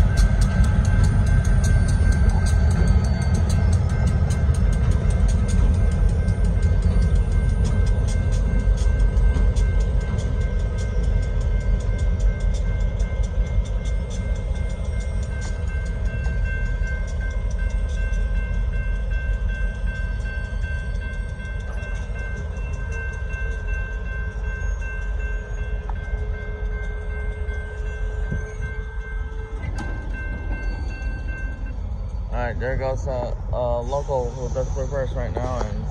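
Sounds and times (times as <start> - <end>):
freight train rumbling: 0.0 - 35.9
steady high tones: 0.0 - 35.9.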